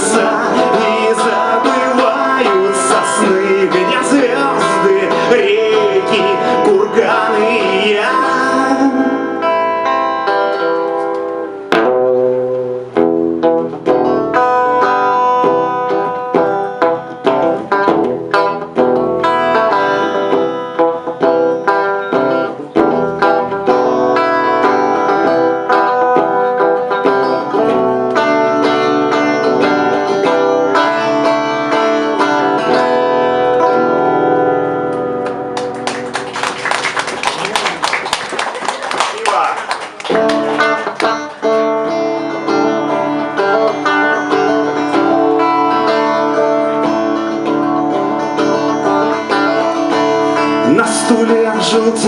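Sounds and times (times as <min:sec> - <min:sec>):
plucked string instrument: 0:00.0 - 0:36.1, 0:40.1 - 0:52.0.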